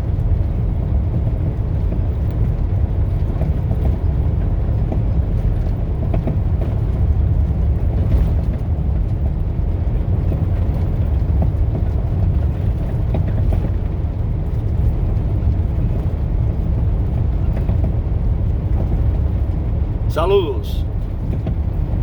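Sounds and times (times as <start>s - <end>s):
vehicle road and wind noise: 0.0s - 22.0s.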